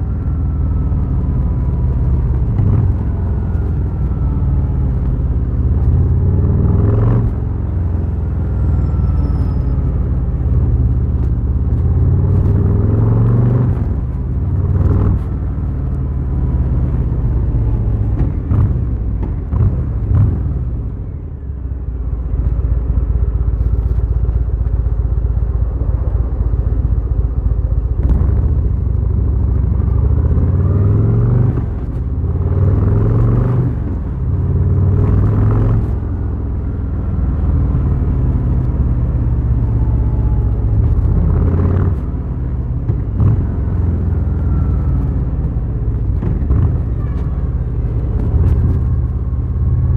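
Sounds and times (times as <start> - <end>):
motorcycle engine accelerating: 0.0 - 20.8, 23.3 - 49.9.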